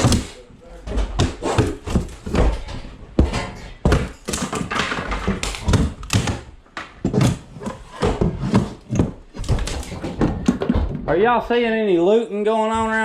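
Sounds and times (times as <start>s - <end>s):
demolition thuds and bangs: 0.0s - 11.4s.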